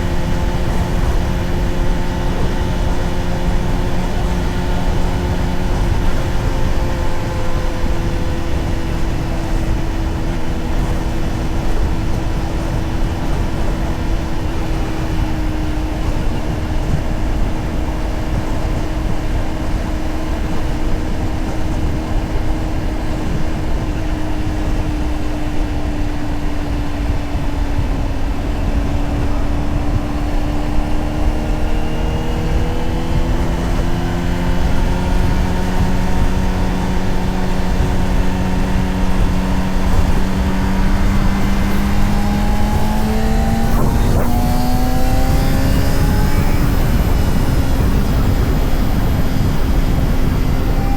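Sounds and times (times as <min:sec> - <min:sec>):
motorcycle engine cruising: 0:00.0 - 0:50.9
wind rush on microphone: 0:00.0 - 0:50.9.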